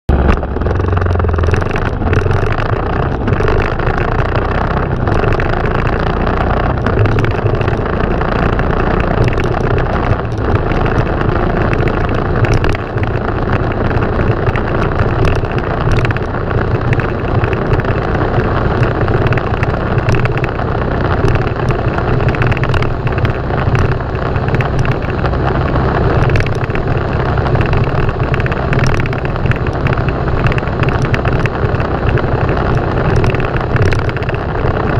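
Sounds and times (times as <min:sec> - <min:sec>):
motorcycle engine running: 0:00.1 - 0:34.9
rushing wind noise: 0:00.1 - 0:34.9.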